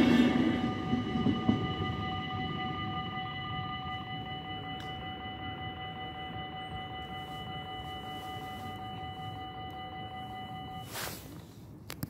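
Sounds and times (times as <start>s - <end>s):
level crossing warning bell ringing: 0.0s - 11.6s.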